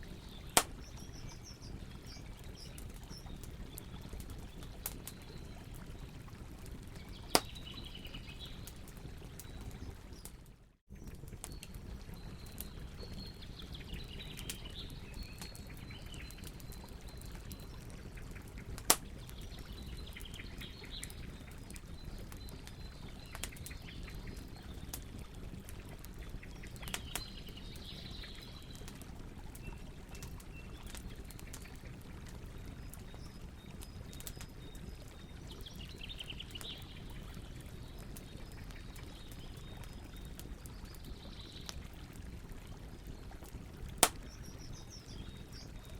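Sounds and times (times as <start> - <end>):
campfire crackling and popping: 0.0 - 45.9
low rumble of flames: 0.0 - 45.9.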